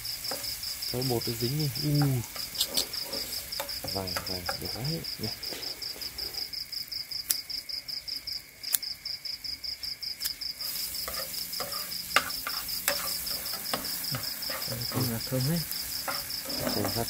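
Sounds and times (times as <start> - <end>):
food sizzling in a pan: 0.0 - 7.6, 10.2 - 17.0
cricket chirping: 0.0 - 17.0.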